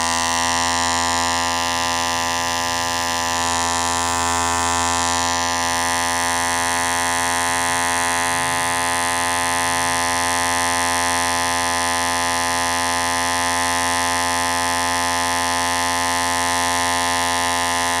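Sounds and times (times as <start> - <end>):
electric hair clipper buzzing: 0.0 - 18.0.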